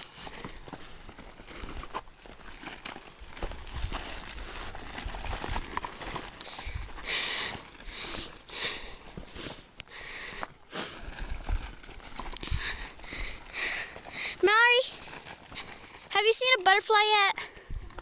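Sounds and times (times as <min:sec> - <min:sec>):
footsteps on dirt trail: 0:00.0 - 0:18.0.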